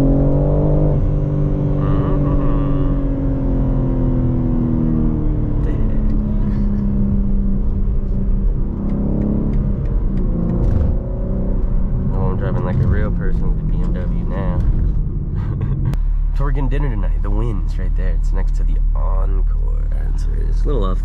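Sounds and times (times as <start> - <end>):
car engine from inside cabin: 0.0 - 21.0
road rumble: 0.0 - 21.0.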